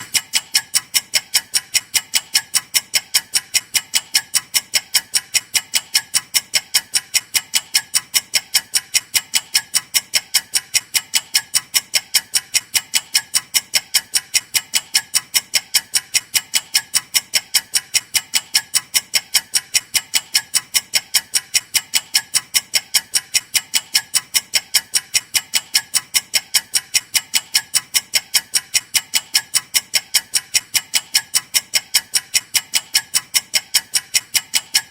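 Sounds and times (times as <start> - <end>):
clock ticking fast: 0.0 - 34.9.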